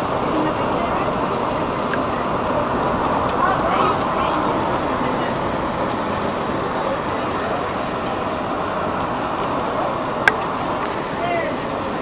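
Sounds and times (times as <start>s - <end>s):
monorail travel noise: 0.0s - 12.0s.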